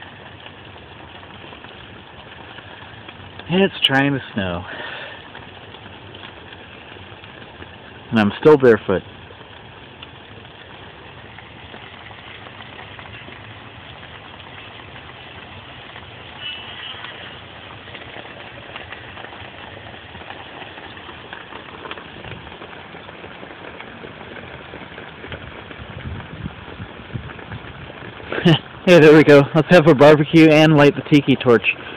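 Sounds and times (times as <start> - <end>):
low rumble and hiss: 0.0 - 31.9.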